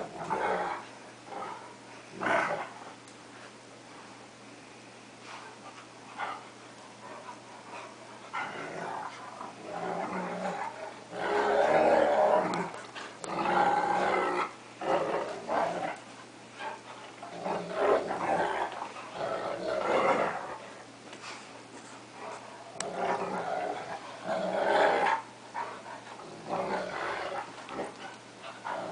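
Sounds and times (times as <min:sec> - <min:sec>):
dogs growling while play-fighting: 0:00.0 - 0:03.0, 0:05.3 - 0:28.9.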